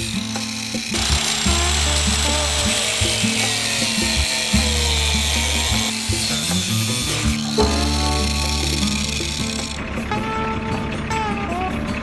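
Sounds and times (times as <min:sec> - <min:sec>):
angle grinder cutting steel: 0:00.0 - 0:09.8
background music: 0:00.0 - 0:12.0.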